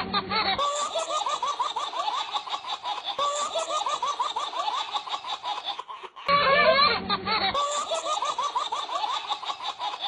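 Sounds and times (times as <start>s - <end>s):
rapid high-pitched laugh: 0.0s - 10.0s.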